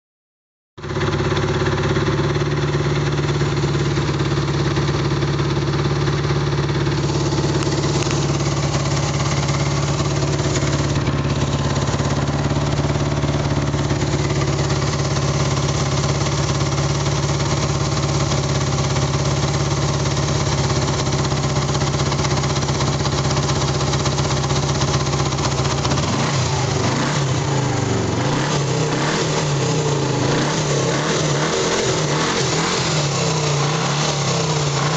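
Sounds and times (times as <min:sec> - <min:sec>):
motorcycle engine idling and revving: 0:00.8 - 0:34.9.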